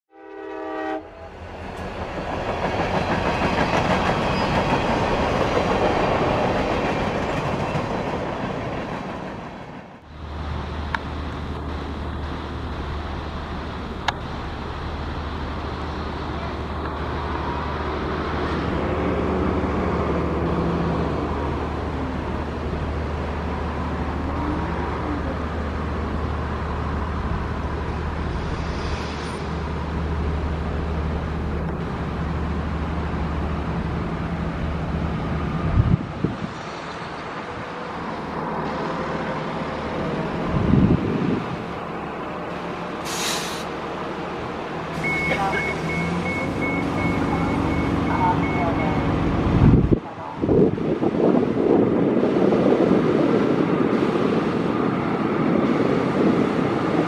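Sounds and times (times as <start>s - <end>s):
railcar engine drone: 0.1s - 57.0s
rushing noise: 1.1s - 57.0s
wheels rumbling on rails: 1.1s - 57.0s.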